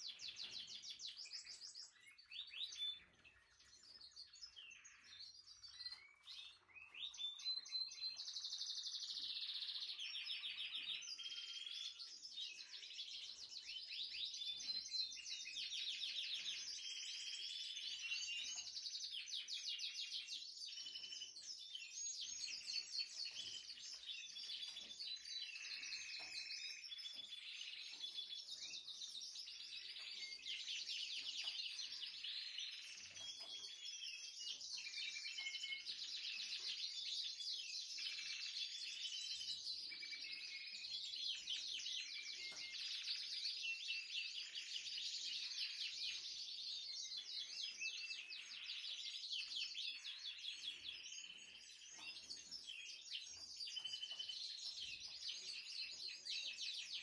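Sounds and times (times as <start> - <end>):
canaries trilling and chirping: 0.0 - 57.0.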